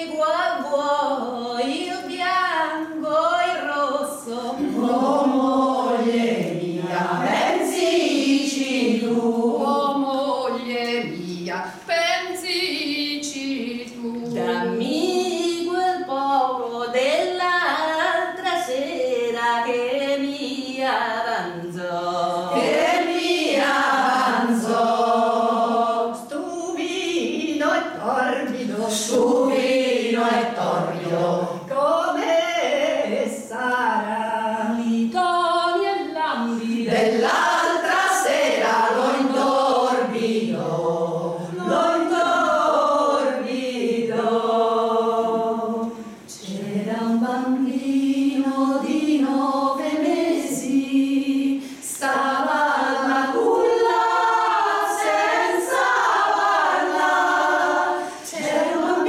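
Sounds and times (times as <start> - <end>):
women's choir singing a cappella: 0.0 - 59.0.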